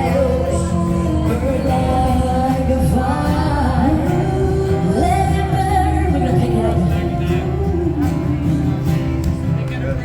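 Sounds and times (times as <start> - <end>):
music with singing: 0.0 - 10.0.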